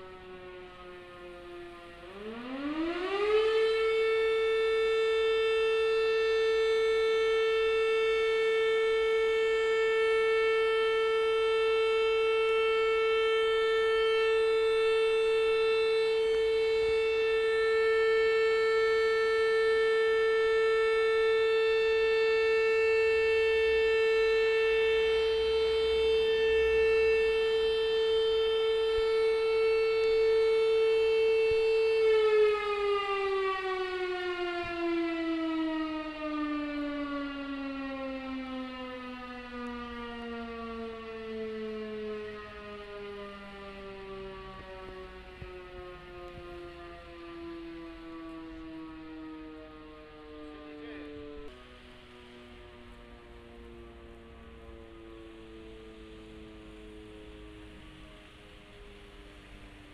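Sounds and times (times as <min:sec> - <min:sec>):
fire alarm siren: 0:00.0 - 0:59.9.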